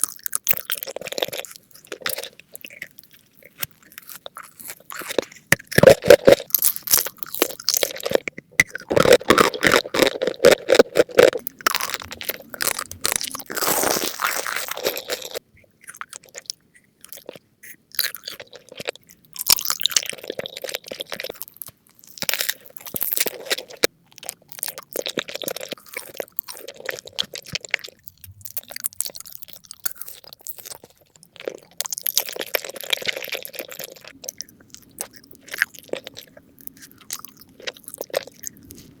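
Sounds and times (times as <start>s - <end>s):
crunchy bites and chewing: 0.0s - 39.0s.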